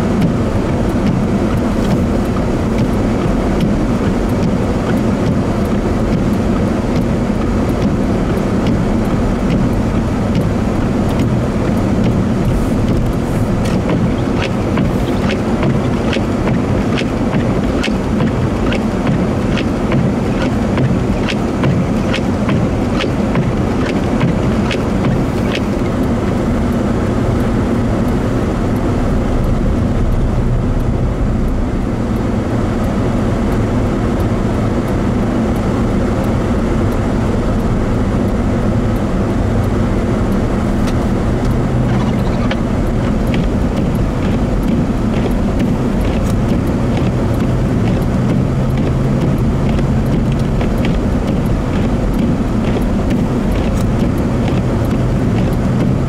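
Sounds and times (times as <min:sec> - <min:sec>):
vehicle engine and road noise: 0:00.0 - 0:56.0
faint light ticks: 0:00.2 - 0:31.6, 0:32.2 - 0:56.0.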